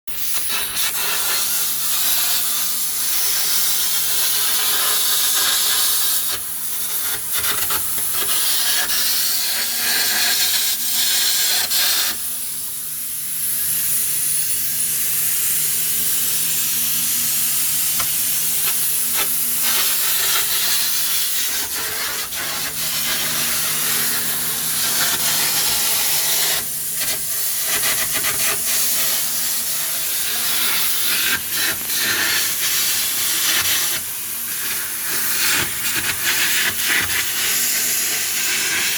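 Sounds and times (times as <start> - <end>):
loud steady hiss: 0.1 - 38.9.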